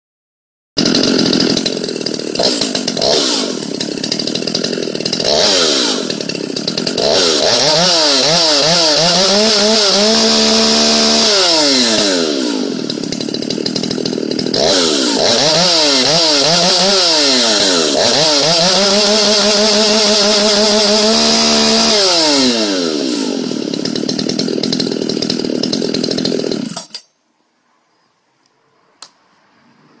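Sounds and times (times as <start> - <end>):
chainsaw engine revving: 0.8 - 27.0.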